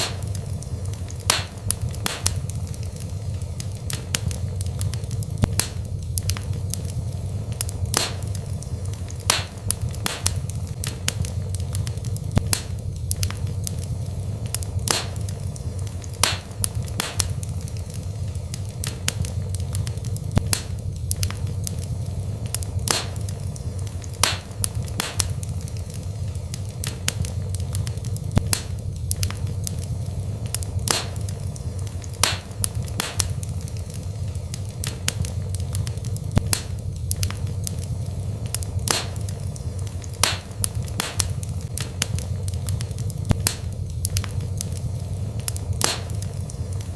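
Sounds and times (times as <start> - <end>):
fire low rumble: 0.0 - 46.9
wood fire crackling and popping: 0.0 - 46.9.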